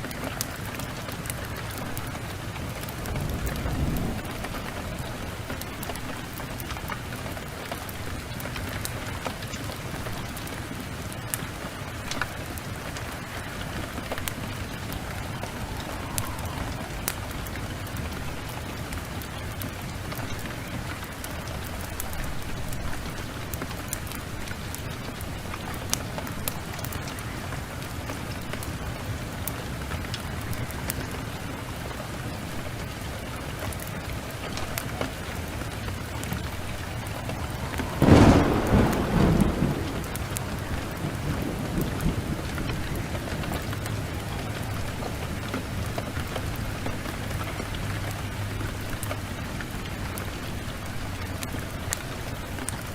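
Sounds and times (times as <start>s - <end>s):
thunderclap rumbling: 0.0s - 8.7s, 9.9s - 29.4s, 34.0s - 49.1s
heavy rain falling: 0.0s - 52.9s.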